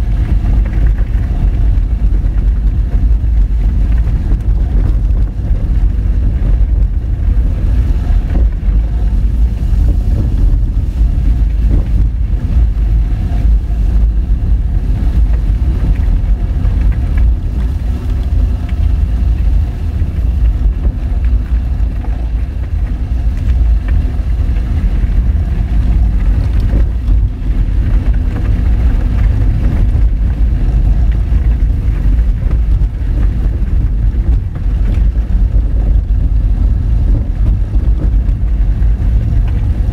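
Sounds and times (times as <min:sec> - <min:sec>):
car driving on gravel: 0:00.0 - 0:39.9.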